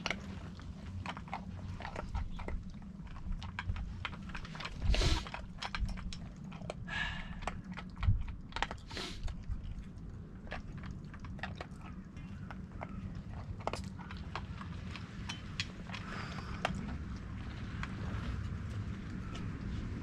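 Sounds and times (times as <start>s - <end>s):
rustles: 0.0s - 10.0s, 10.6s - 20.0s
dog crunching kibble: 0.0s - 20.0s.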